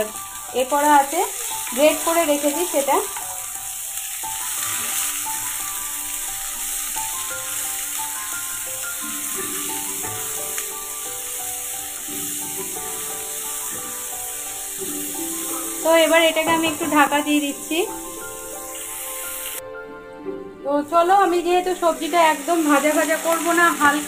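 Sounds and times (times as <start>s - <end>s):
vegetables sizzling in hot oil: 0.0s - 19.6s, 20.8s - 24.0s.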